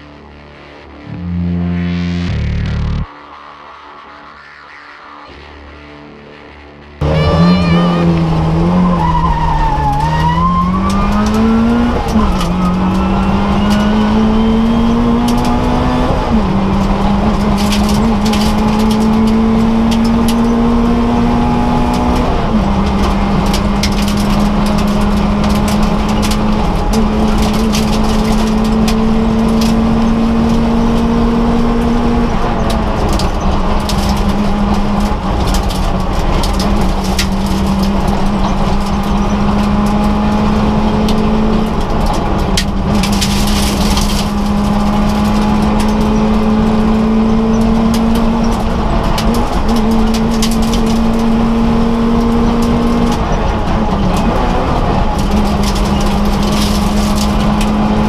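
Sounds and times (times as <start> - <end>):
rally car engine revving: 0.9 - 3.1, 6.9 - 58.0.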